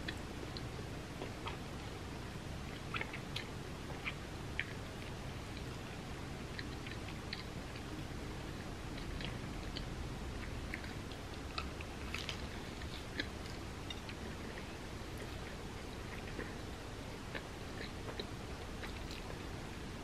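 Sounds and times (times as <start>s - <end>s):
close chewing: 0.0s - 20.0s.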